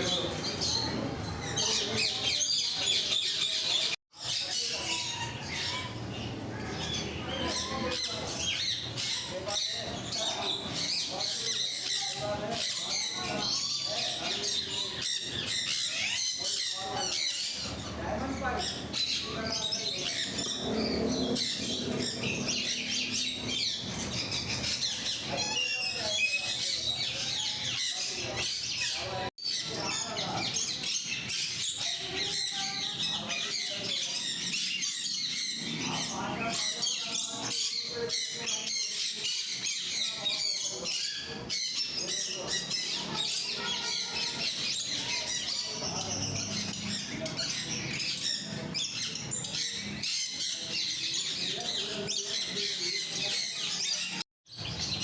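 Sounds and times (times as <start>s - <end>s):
parrots chattering and squawking: 0.0s - 55.0s.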